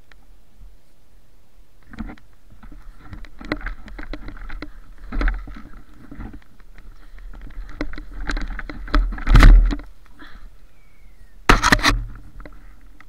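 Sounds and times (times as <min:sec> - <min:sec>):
low rumble of movement: 0:01.8 - 0:13.0.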